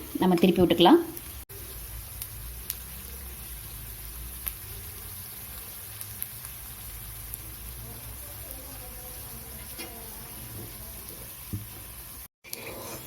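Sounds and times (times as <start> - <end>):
cutlets sizzling in oil: 0.0 - 13.0.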